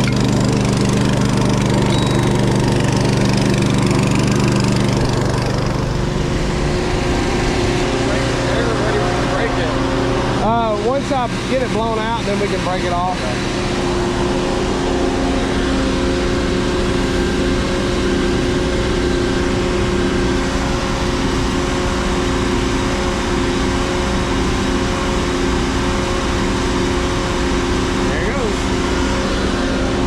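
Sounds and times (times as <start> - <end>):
engine droning steadily: 0.0 - 30.0.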